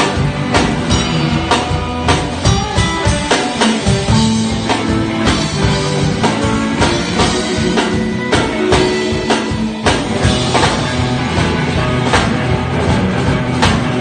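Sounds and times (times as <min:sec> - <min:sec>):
drum kit steady beat: 0:00.0 - 0:14.0
electric guitar lines: 0:00.0 - 0:14.0.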